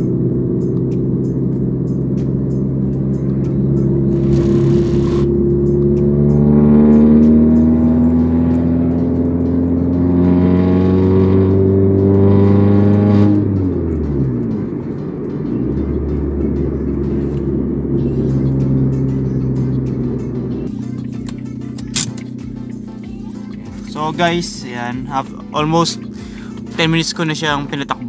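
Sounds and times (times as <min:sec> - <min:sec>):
car exhaust note accelerating: 0:00.0 - 0:28.0
road noise: 0:00.0 - 0:28.0.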